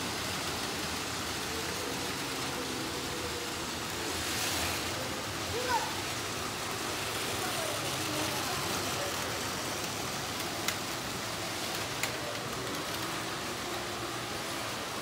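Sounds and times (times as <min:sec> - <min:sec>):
faint voices: 0:00.0 - 0:15.0
toy trains running on track: 0:00.0 - 0:15.0.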